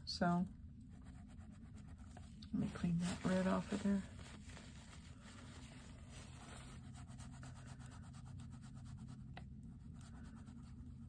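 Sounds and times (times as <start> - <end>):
pastel stroking over paper: 0.8 - 11.0
pastel wiped on paper towel: 1.0 - 11.0.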